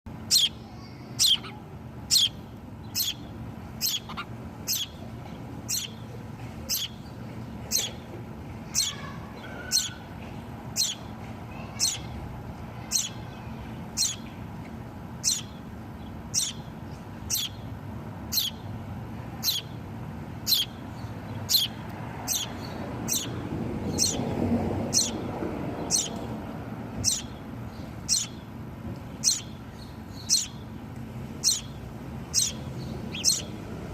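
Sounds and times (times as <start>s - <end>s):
baby bird chirping: 0.2s - 14.6s, 15.2s - 18.8s, 19.4s - 19.8s, 20.4s - 26.3s, 26.9s - 28.6s, 29.2s - 30.7s, 31.4s - 33.9s.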